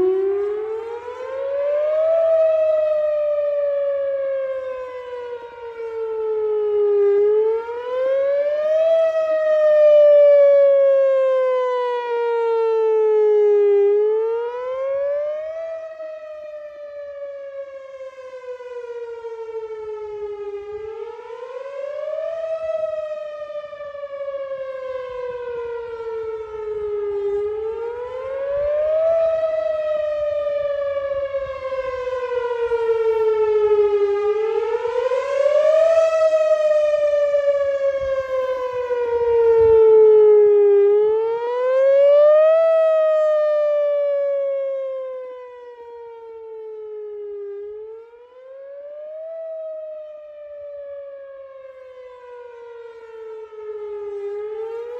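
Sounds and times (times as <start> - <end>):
warning siren wailing: 0.0 - 54.9.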